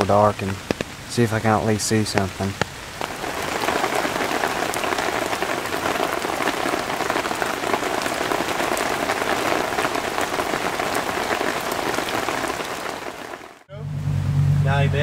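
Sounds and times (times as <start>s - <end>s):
campfire crackling: 0.0s - 13.7s
rain pattering: 0.0s - 13.7s.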